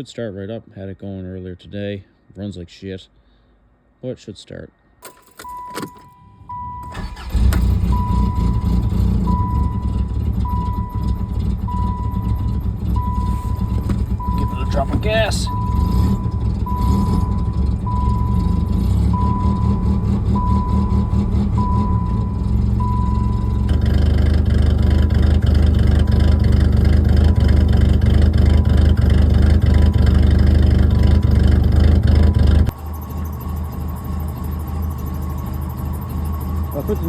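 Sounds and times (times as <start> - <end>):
car engine running: 5.0 - 37.0
car warning chime beeping: 5.0 - 37.0.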